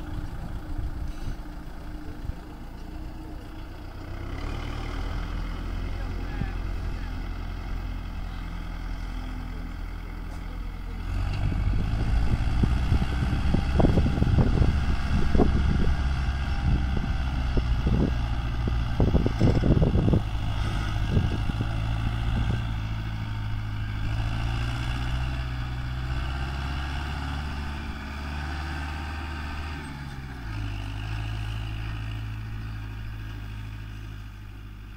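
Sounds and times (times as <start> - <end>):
tractor diesel engine: 0.0 - 34.9.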